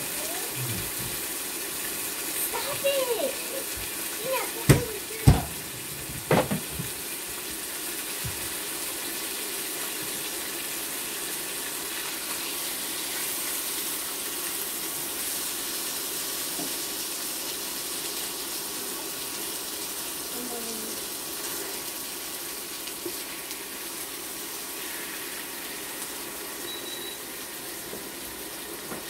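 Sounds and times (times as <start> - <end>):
bacon sizzling in a pan: 0.0 - 29.0.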